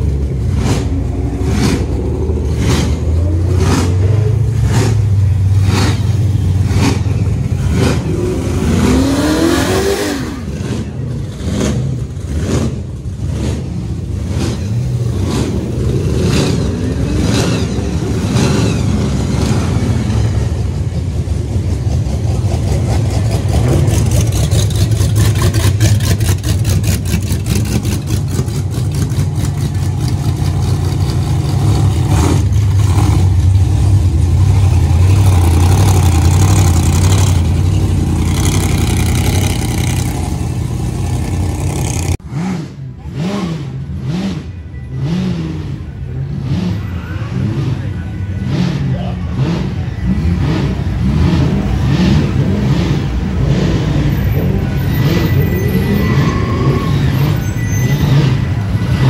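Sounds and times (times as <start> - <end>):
engines idling: 0.0 - 59.0
modified car engines revving: 0.0 - 59.0.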